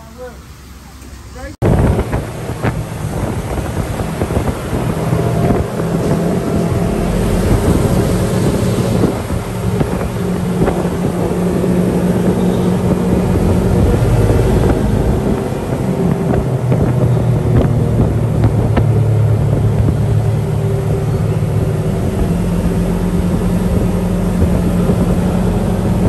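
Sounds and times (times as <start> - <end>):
buggy engine running: 1.0 - 26.0
wind buffeting microphone: 1.6 - 26.0.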